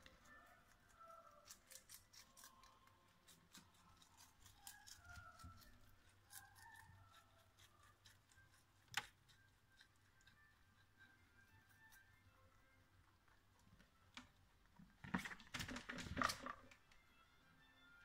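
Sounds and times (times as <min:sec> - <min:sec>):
rabbit chewing lettuce: 0:00.0 - 0:17.0
faint background music: 0:00.0 - 0:18.0.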